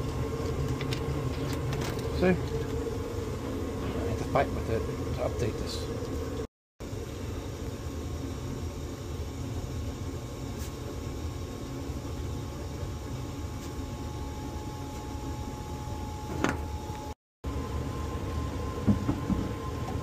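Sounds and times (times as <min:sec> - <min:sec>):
faint whine: 0:00.0 - 0:20.0
furnace motor hum: 0:00.0 - 0:20.0.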